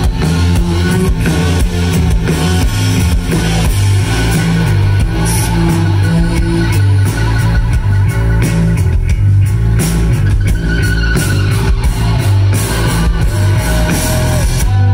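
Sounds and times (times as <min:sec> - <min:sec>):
bass guitar: 0:00.0 - 0:14.9
drum kit: 0:00.0 - 0:14.9
electric guitar: 0:00.0 - 0:14.9.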